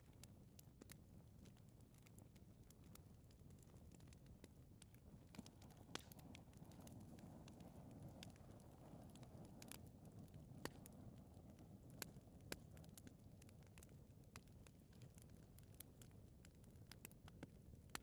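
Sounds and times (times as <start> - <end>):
fire crackling with pops: 0.0 - 18.0
low rumble of flame: 0.0 - 18.0.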